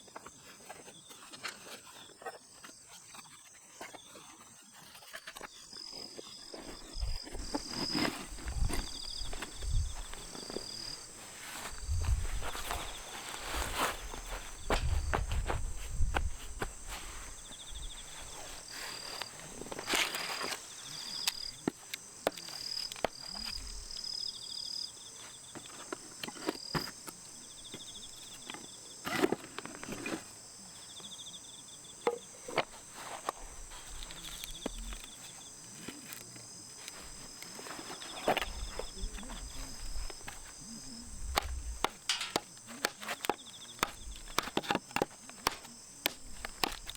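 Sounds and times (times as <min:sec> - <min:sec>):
handling knocks and rustles: 0:00.0 - 0:24.3, 0:25.1 - 0:30.4, 0:32.0 - 0:46.9
crickets trilling: 0:00.0 - 0:46.9
insect chorus: 0:00.0 - 0:46.9.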